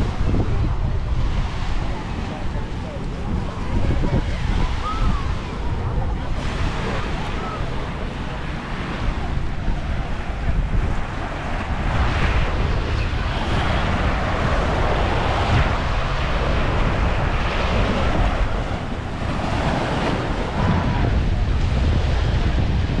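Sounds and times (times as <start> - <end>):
small waves washing on shore: 0.0 - 23.0
wind buffeting microphone: 0.0 - 23.0.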